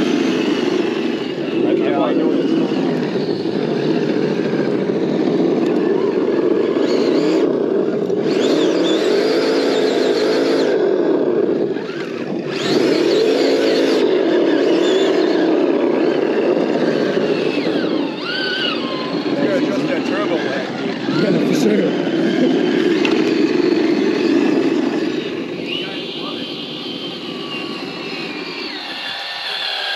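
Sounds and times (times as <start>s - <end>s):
simulated engine revving from speaker: 0.0s - 29.9s.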